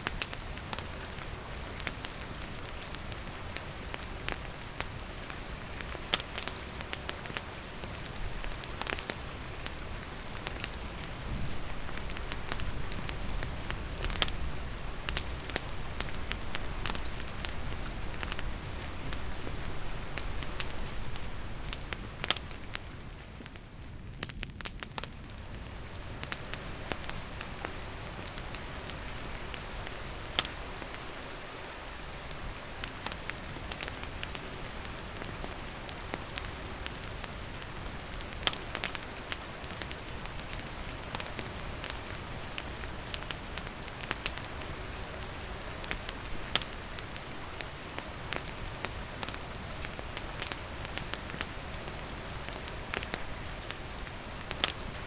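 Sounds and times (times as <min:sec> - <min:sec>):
wood fire crackling and popping: 0:00.0 - 0:31.4, 0:32.0 - 0:55.0
rain falling: 0:00.0 - 0:55.0.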